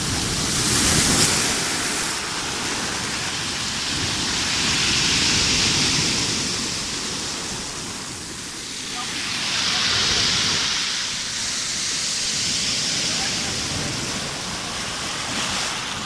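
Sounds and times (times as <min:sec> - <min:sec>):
waves breaking and washing ashore: 0:00.0 - 0:16.0.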